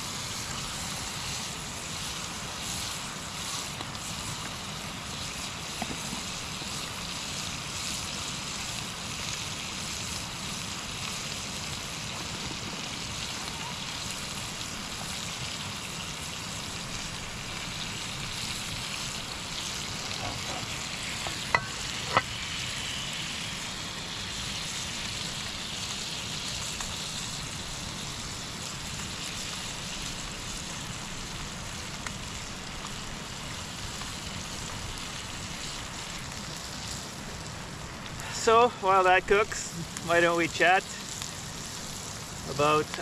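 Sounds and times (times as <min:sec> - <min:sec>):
fish and potatoes sizzling in pan: 0:00.0 - 0:43.0.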